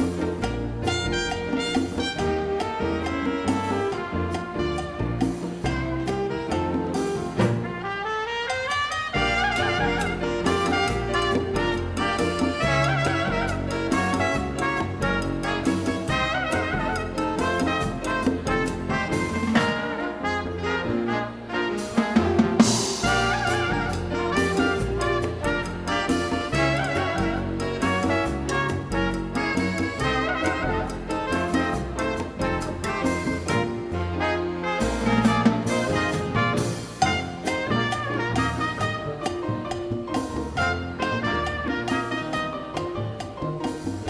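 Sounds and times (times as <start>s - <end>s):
drums: 0.0s - 44.0s
live latin dance band: 0.0s - 44.0s
trumpets and trombones: 0.0s - 44.0s.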